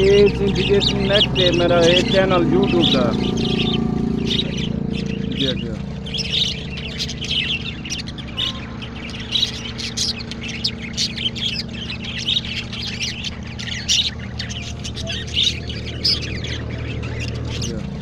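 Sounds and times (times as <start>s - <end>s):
farm birds chirping and squawking: 0.0s - 18.0s
steady low hum: 0.0s - 18.0s.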